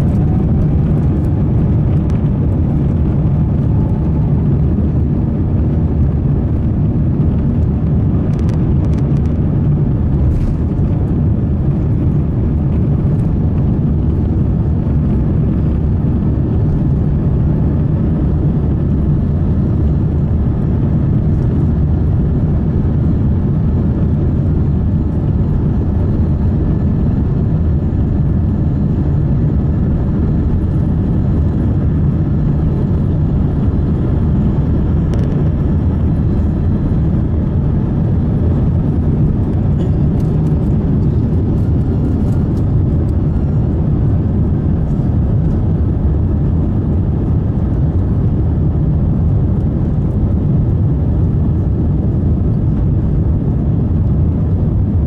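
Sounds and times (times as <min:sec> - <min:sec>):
jet engines roaring in cabin: 0:00.0 - 0:55.0.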